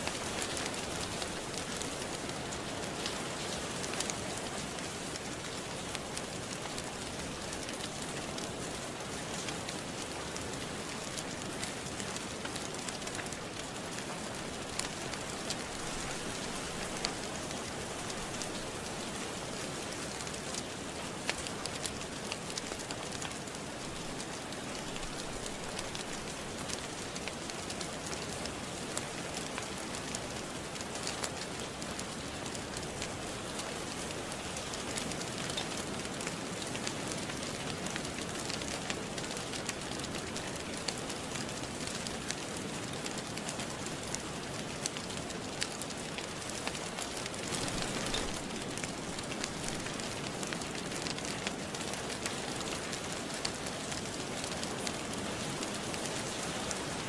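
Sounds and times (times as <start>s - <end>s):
fire crackling: 0.0s - 57.0s
steady rain falling: 0.0s - 57.0s.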